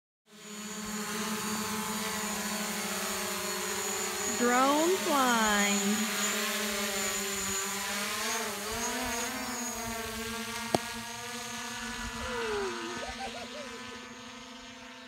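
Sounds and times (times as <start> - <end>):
drone propellers humming: 0.3 - 15.0.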